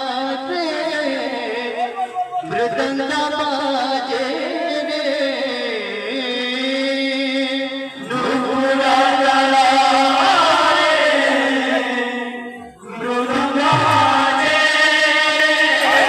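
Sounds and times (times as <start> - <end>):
men singing a devotional chant: 0.0 - 16.0.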